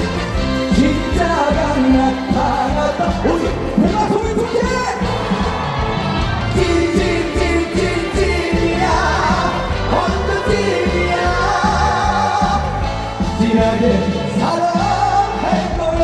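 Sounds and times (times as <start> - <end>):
person singing: 0.0 - 5.7, 6.5 - 16.0.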